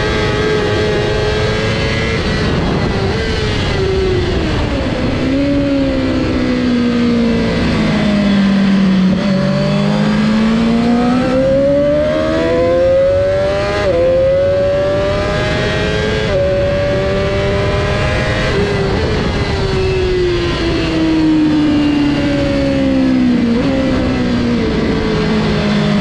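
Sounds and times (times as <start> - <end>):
gear upshifts cutting engine note: 0.0 - 26.0
motorcycle engine revving: 0.0 - 26.0.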